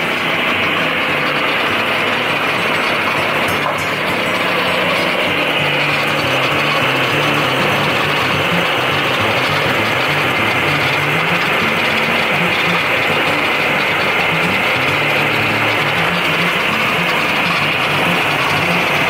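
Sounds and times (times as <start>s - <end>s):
sawmill engine cutting log: 0.0s - 19.0s.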